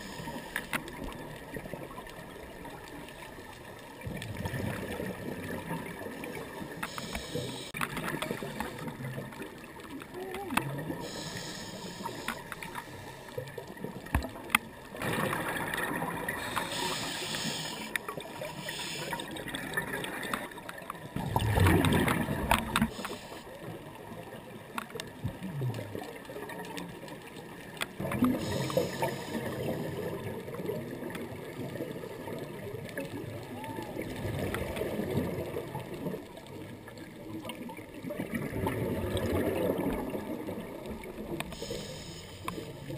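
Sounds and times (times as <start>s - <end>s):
exhaled bubbles gurgling underwater: 0.0s - 42.9s
steady water hiss: 0.0s - 42.9s.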